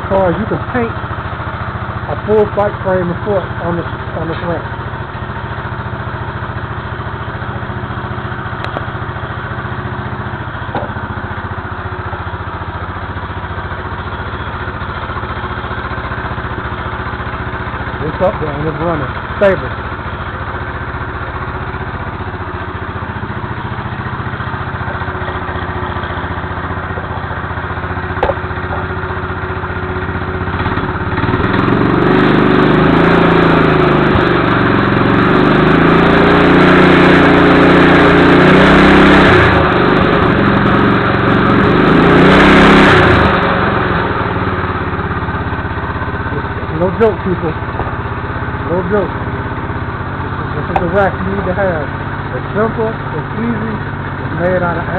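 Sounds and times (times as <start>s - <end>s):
motorized bicycle engine revving: 0.0s - 54.9s.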